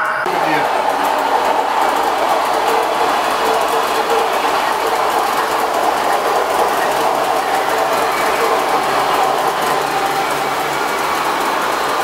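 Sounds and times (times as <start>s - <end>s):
model train wheels on rails: 0.3s - 12.0s.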